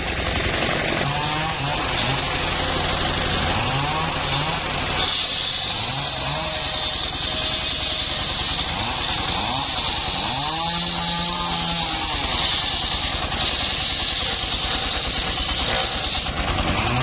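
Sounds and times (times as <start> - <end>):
engine-driven saw whining: 0.0 - 17.0.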